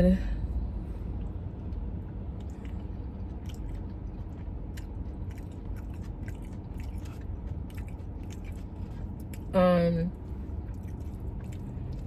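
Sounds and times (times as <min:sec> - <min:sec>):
steady low hum: 0:00.0 - 0:12.0
person chewing food: 0:01.1 - 0:09.6, 0:10.2 - 0:12.0.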